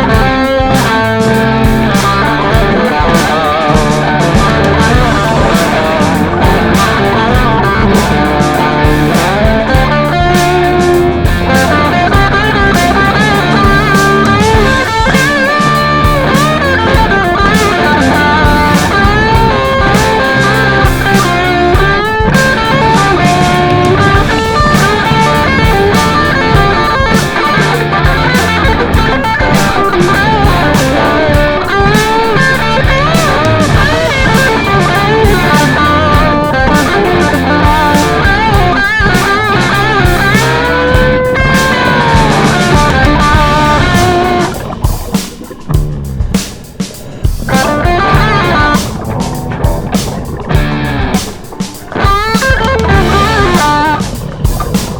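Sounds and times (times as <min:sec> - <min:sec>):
bass and drum beat: 0:00.0 - 0:54.9
electric guitar lead lines: 0:00.0 - 0:54.9.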